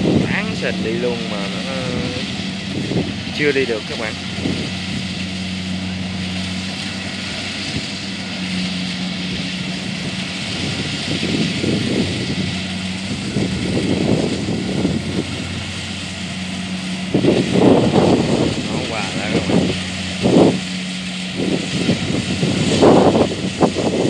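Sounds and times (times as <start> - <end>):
distant diesel engine running: 0.0 - 24.0
uneven rumbling: 0.0 - 24.0.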